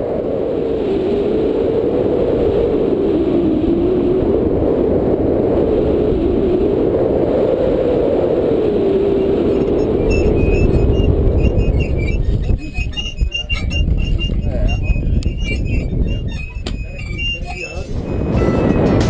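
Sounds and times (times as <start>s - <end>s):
hum rising and falling in pitch: 0.4s - 19.0s
steady low rushing noise: 1.7s - 19.0s.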